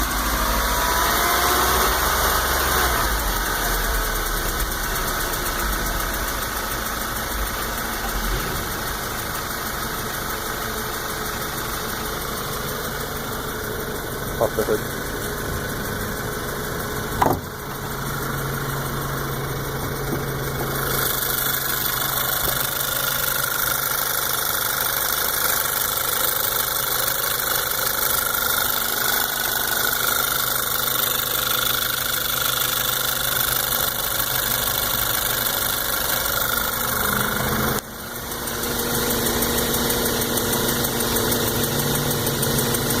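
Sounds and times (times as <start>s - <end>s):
car engine running: 0.0s - 43.0s
engine ticking: 0.0s - 43.0s.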